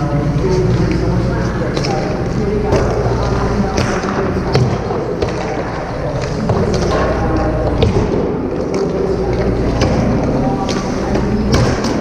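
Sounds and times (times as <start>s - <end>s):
low steady hum: 0.0s - 12.0s
hockey sticks and pucks clacking: 0.2s - 12.0s.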